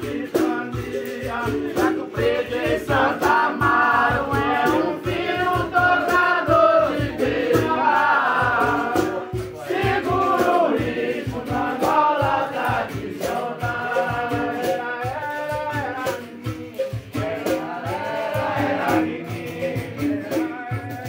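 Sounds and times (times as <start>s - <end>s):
berimbaus struck rhythmically: 0.0s - 21.0s
group of voices singing: 0.0s - 21.0s
rattling shakers: 0.0s - 21.0s.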